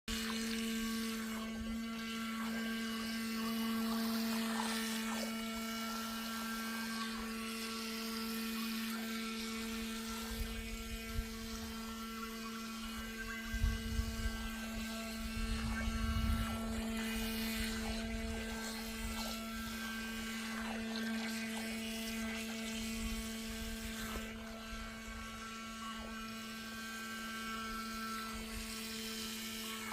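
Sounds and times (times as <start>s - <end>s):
toy jet boat motor whining: 0.1s - 29.9s.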